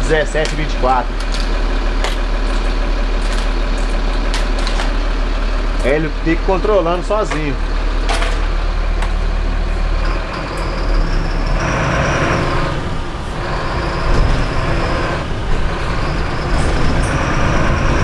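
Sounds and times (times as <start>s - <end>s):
diesel bus engine running: 0.0s - 18.0s.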